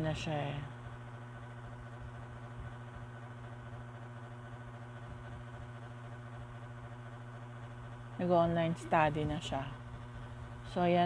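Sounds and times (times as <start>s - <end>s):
hot air brush motor hum: 0.0s - 11.0s.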